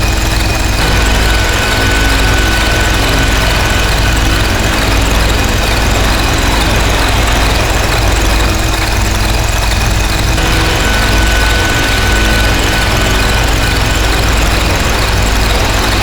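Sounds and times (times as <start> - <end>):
heavy low rumble: 0.0 - 16.0
steady high whistle: 0.8 - 16.0.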